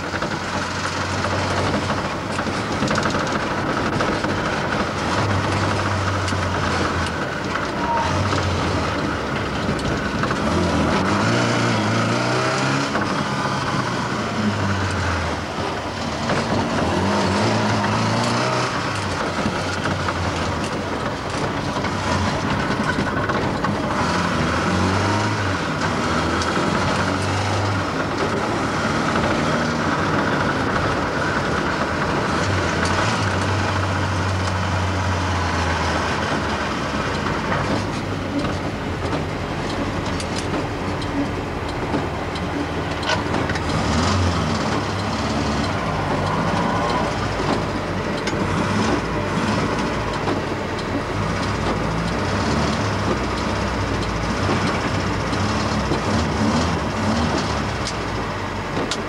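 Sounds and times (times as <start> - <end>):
car body rattles: 0.0 - 59.0
car engine drone: 0.0 - 59.0
road and tyre noise: 0.0 - 59.0.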